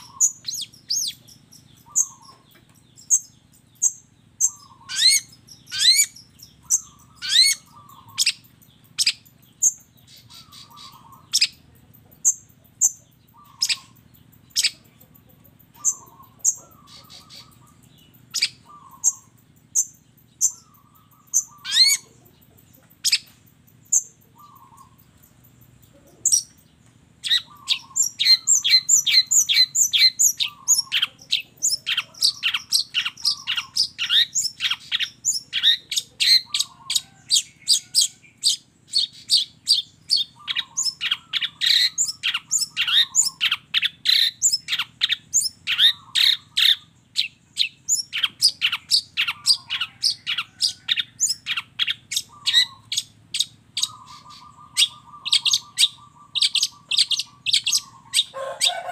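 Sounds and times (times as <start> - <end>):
bird singing sharp calls: 0.0 - 58.9.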